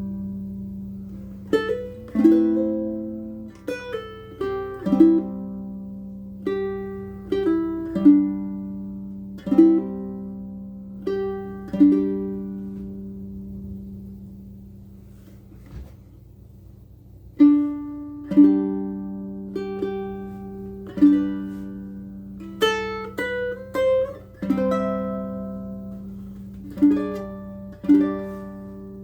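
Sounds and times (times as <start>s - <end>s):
ukulele picked melody: 0.0s - 15.9s, 17.2s - 29.0s.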